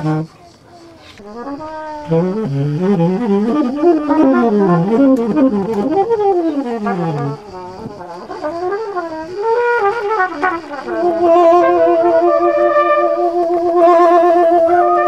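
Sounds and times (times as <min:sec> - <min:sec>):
trumpet playing jazz: 0:00.0 - 0:00.3, 0:01.2 - 0:15.0
saxophone playing jazz: 0:00.0 - 0:15.0.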